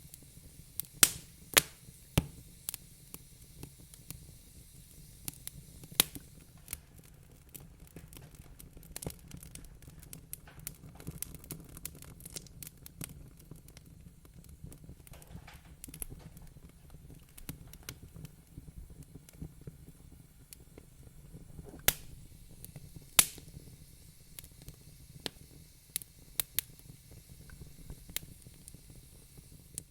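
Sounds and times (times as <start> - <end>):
fire crackling: 0.0 - 29.9
fire popping: 0.0 - 29.9
low fire rumble: 0.0 - 29.9.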